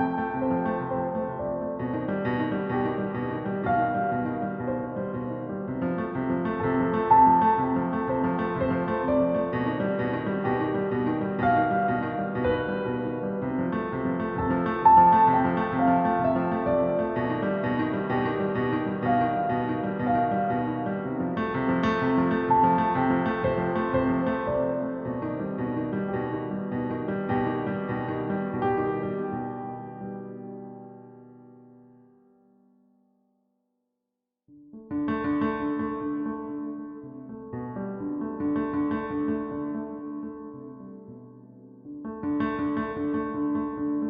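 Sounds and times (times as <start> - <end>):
slow piano music: 0.0 - 32.8, 34.5 - 44.0.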